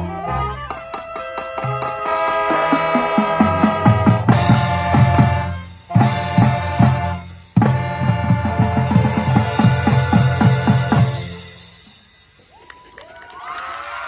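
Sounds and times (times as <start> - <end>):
snare and bass drum beats: 0.0 - 12.2
marching band playing: 0.0 - 12.6.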